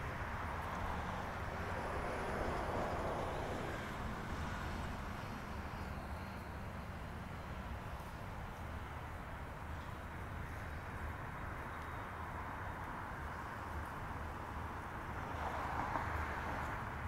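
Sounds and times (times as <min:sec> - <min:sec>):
passing vehicle tyre noise: 0:00.0 - 0:17.0
steady low traffic rumble: 0:00.0 - 0:17.0.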